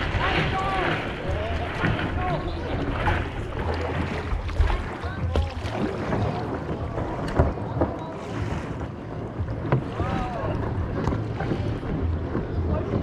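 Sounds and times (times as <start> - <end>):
water splashing around paddle: 0.0 - 13.0.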